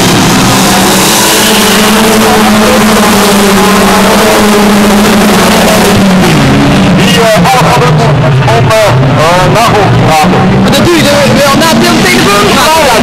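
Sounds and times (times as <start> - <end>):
racing car engines droning: 0.0 - 13.0.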